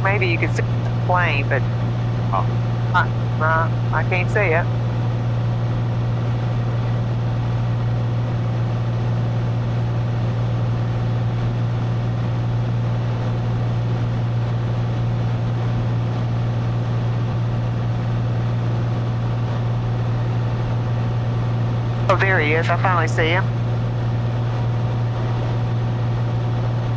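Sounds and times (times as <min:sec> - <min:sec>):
propeller plane engine drone: 0:00.0 - 0:26.9.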